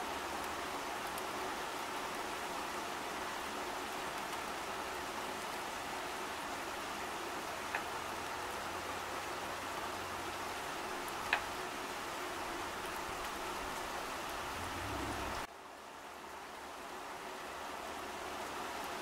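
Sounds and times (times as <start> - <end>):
rain falling on foliage: 0.0 - 19.0.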